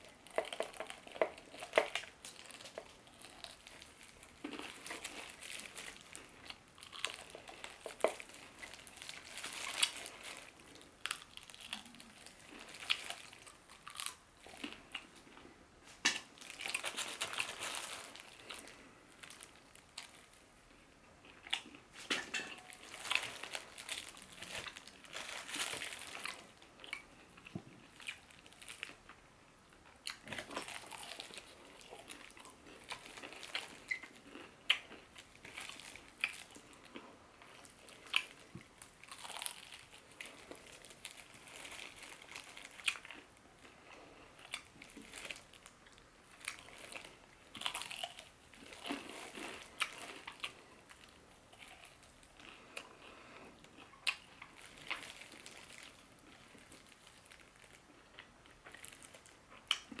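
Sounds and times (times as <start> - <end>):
crunching fried chicken: 0.0 - 15.3, 16.0 - 60.0.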